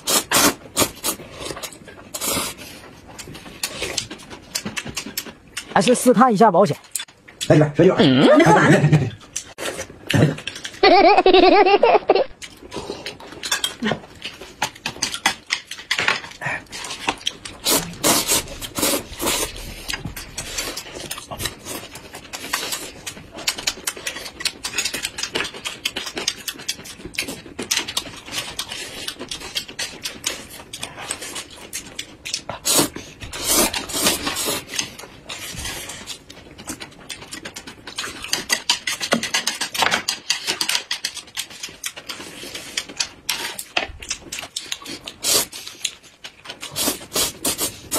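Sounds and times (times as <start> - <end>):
wet chewing and lip-smacking: 0.0 - 7.6, 9.1 - 10.8, 12.3 - 47.9.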